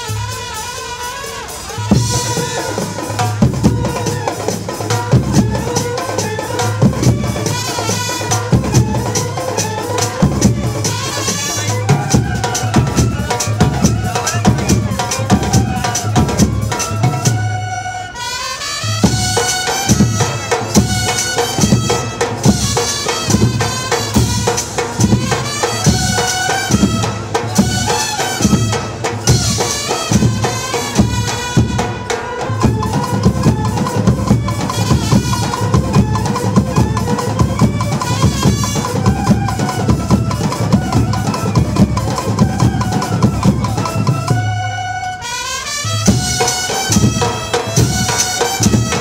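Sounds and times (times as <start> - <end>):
steady drum beat: 0.0 - 17.9, 18.9 - 44.6, 45.8 - 49.0
brass band melody: 0.0 - 49.0.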